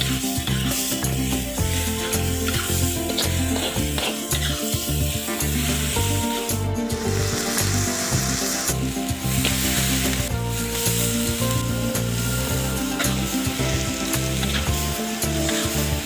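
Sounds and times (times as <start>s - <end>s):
background music: 0.0s - 16.0s
meat sizzling in a wok: 0.0s - 16.0s
metal spatula scraping a pan: 0.0s - 16.0s.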